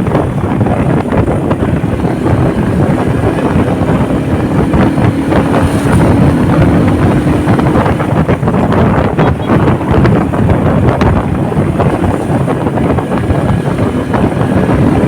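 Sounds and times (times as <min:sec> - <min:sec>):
faint engine hum: 0:00.0 - 0:15.0
wind buffeting microphone: 0:00.0 - 0:15.0.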